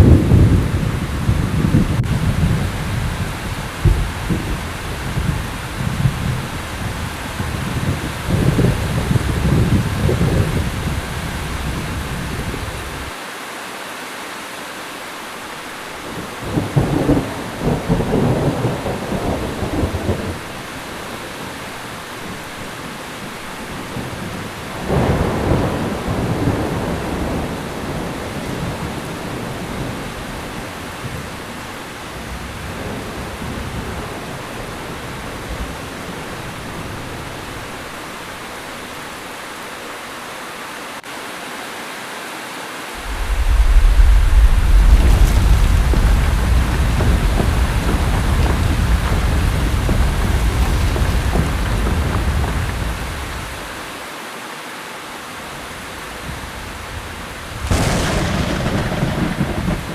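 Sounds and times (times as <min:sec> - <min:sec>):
thunder rumbling: 0:00.0 - 0:13.1, 0:16.1 - 0:22.7, 0:23.3 - 0:38.7, 0:43.0 - 0:53.9, 0:56.1 - 0:59.9
heavy rain pouring: 0:00.0 - 0:59.9.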